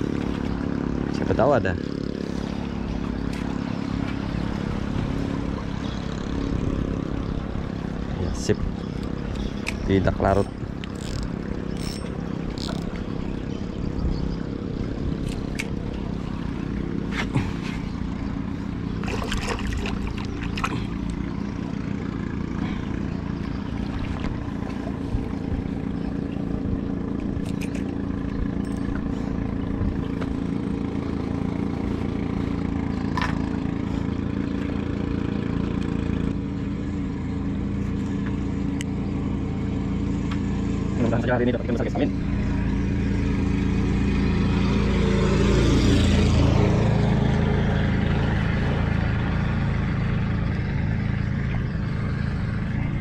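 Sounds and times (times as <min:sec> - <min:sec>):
engine droning steadily: 0:00.0 - 0:53.0.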